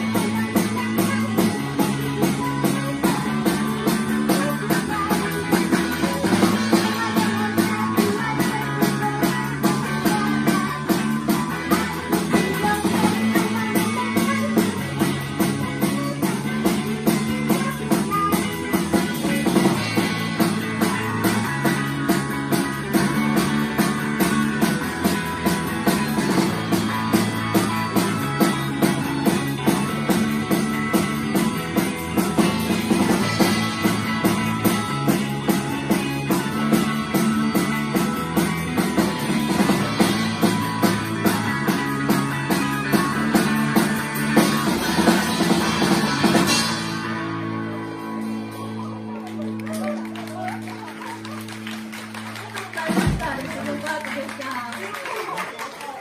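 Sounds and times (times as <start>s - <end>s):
drum-kit beat: 0.0s - 54.6s
electric guitars: 0.0s - 56.0s.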